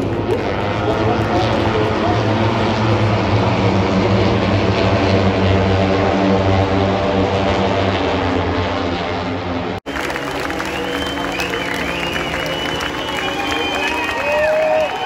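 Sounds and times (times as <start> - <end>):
propeller aircraft droning overhead: 0.0 - 15.0.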